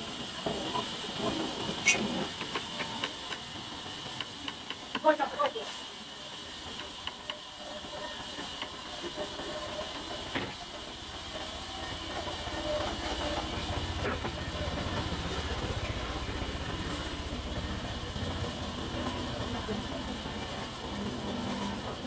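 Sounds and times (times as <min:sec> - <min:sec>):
sawmill machinery hissing: 0:00.0 - 0:22.0.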